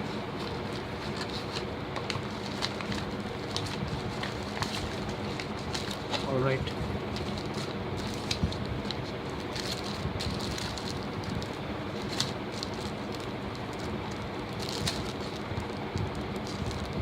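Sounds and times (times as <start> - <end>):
plastic packaging crinkling: 0.4 - 17.0.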